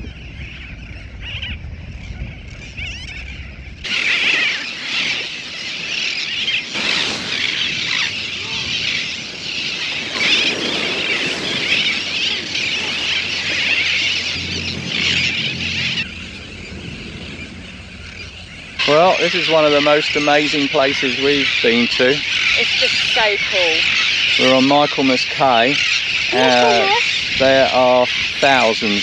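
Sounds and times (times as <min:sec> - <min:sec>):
seabird colony calling: 0:00.0 - 0:29.0
wind rumble on microphone: 0:00.0 - 0:29.0.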